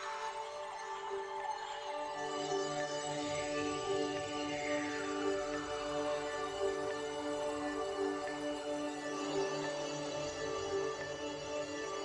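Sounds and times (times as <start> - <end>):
soft electronic new-age music: 0.0 - 12.0.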